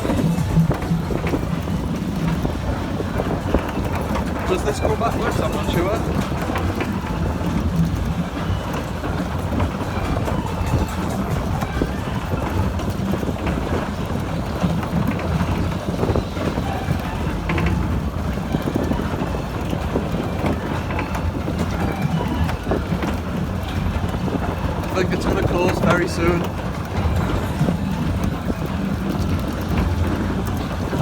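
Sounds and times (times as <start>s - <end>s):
fairground ride rumble: 0.0s - 31.0s.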